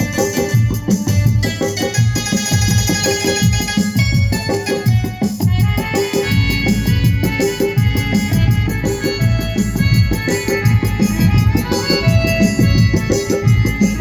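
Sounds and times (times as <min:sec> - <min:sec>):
electronic keyboard melody: 0:00.0 - 0:14.0
steady drum beat: 0:00.0 - 0:14.0.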